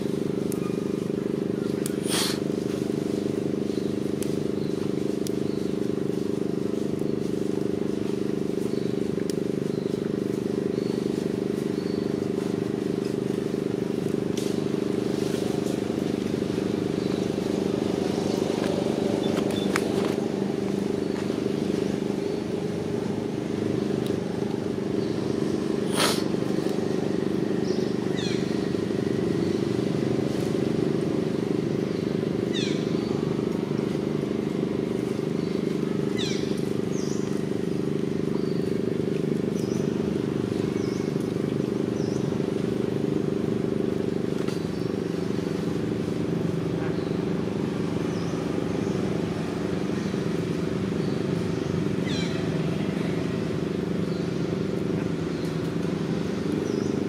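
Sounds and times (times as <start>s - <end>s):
low motor hum: 0.0s - 57.0s.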